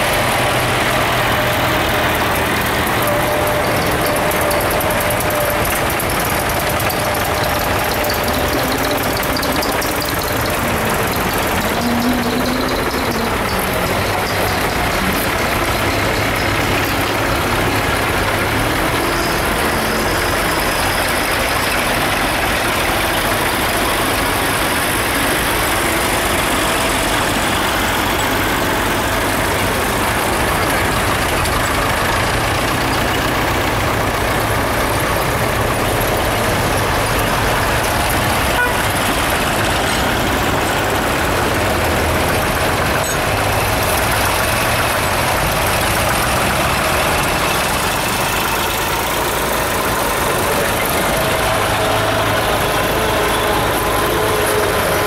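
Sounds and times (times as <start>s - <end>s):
tractor engines running: 0.0s - 55.0s.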